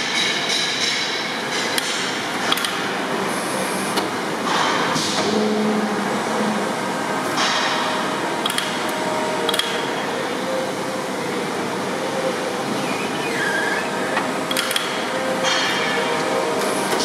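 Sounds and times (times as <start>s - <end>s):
hydraulic drive humming and hissing: 1.7s - 17.0s.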